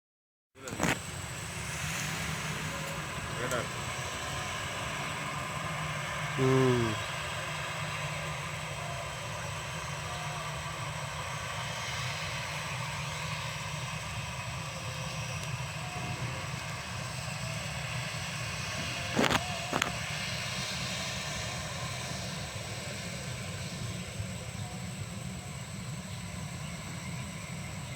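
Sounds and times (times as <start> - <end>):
airliner cabin drone: 0.6 - 27.9.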